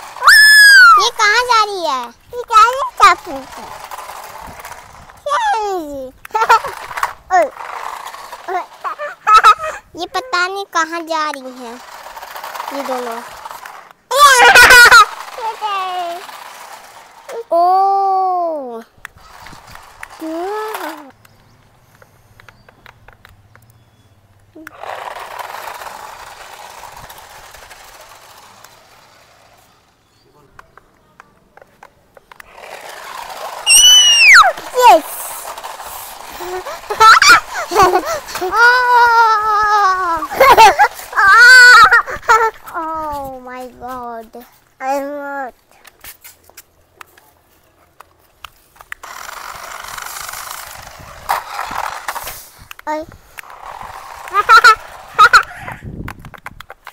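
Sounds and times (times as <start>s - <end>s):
toy car motor whirring: 0.0s - 30.9s, 31.6s - 56.9s.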